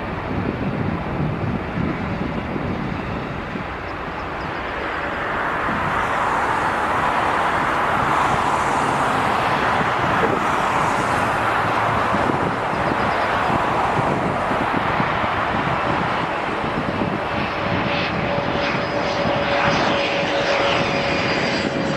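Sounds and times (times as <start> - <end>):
jet engines rushing: 0.0 - 21.9.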